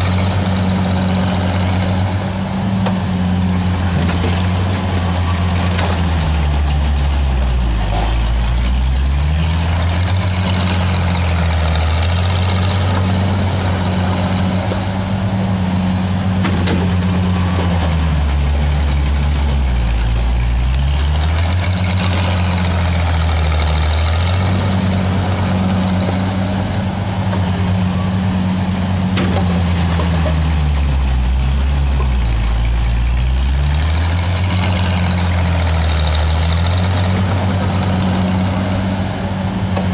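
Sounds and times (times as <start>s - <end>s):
excavator engine under load: 0.0s - 39.9s.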